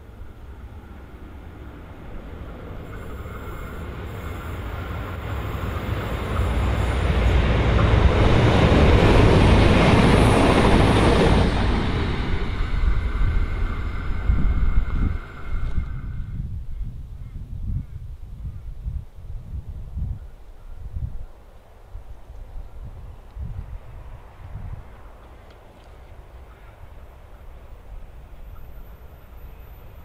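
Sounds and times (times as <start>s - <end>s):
diesel train passing: 0.0s - 16.9s, 22.7s - 30.0s
low train rumble: 0.0s - 30.0s.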